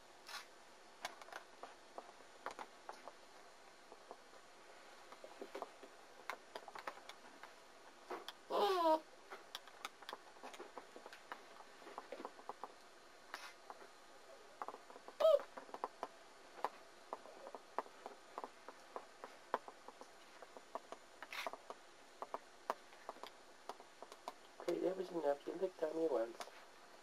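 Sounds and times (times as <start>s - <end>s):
small clicks and rustles: 0.2s - 3.2s, 3.8s - 8.5s, 9.3s - 14.0s, 14.6s - 24.9s.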